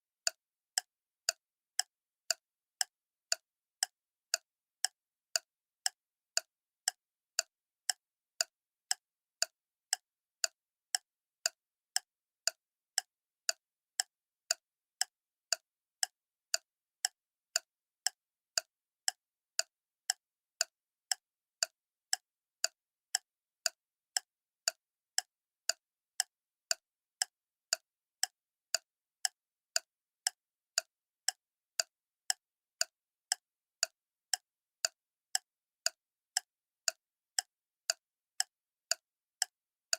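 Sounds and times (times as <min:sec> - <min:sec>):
clock ticking: 0:00.2 - 0:39.9.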